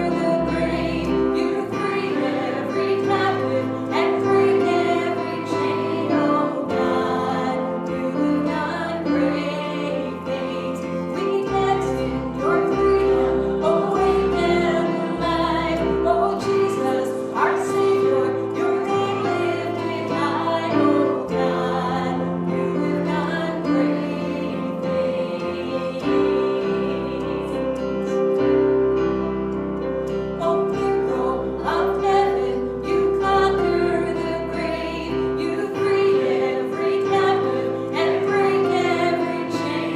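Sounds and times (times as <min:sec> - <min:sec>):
person singing worship song: 0:00.0 - 0:28.4, 0:30.4 - 0:39.9
keyboard accompaniment: 0:00.0 - 0:39.9.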